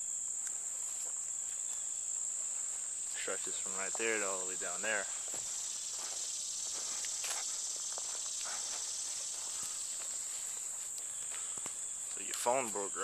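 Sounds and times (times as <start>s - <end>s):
chorus of crickets: 0.0s - 13.0s.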